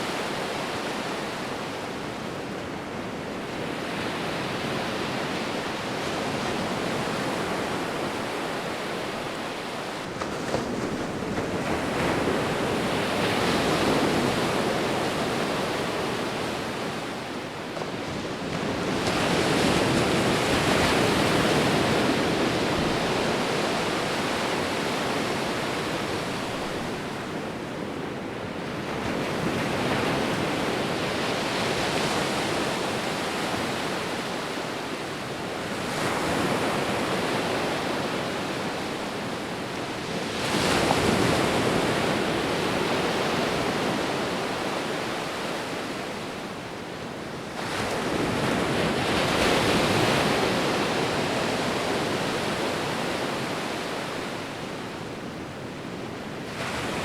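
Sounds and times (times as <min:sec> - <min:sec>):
sea waves surf: 0:00.0 - 0:57.0.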